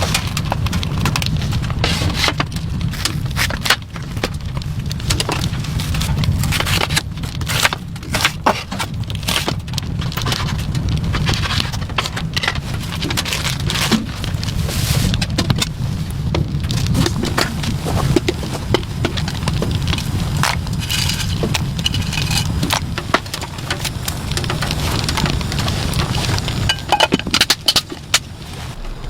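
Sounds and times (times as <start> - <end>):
low rumble: 0.0 - 29.0
rain pattering: 0.0 - 29.0.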